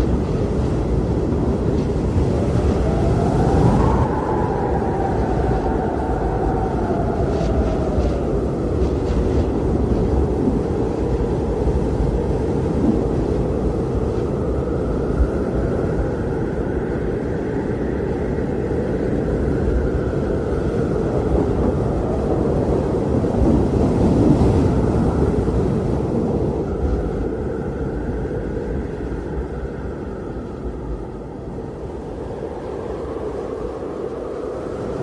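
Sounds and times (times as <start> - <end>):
blizzard wind rushing: 0.0 - 35.0.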